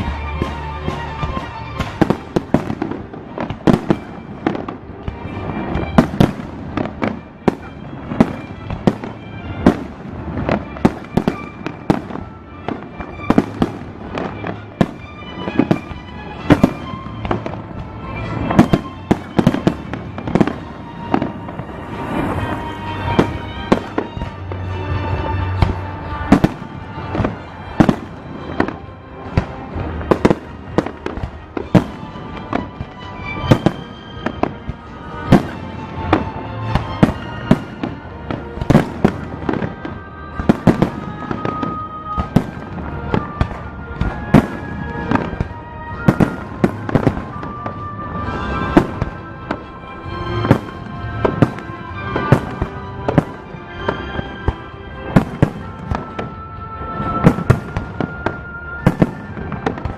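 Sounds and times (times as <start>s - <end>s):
music playing: 0.0s - 59.9s.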